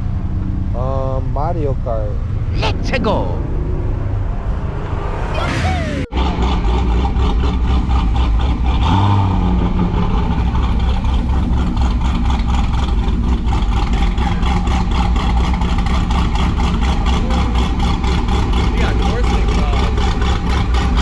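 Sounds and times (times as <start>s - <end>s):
car engine running loudly: 0.0s - 21.0s.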